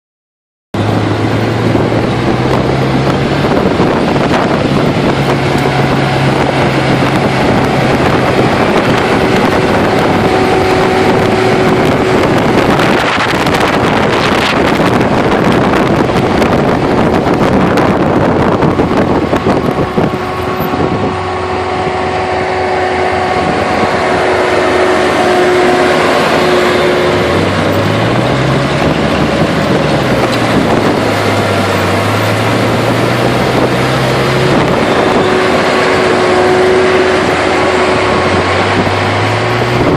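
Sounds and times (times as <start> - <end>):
baler machinery clatter: 0.8 - 39.9
tractor engine running under load: 0.8 - 39.9.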